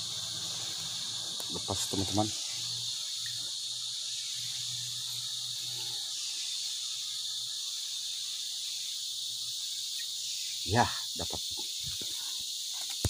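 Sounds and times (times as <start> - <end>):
insects buzzing shrilly: 0.0 - 13.0.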